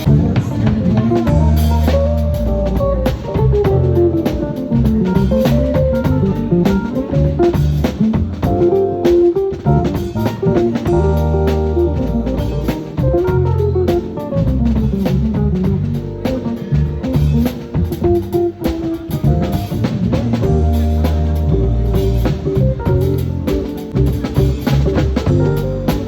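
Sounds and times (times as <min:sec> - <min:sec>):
drums: 0:00.0 - 0:26.0
low bass notes: 0:00.0 - 0:26.0
melodic instruments: 0:00.0 - 0:26.0.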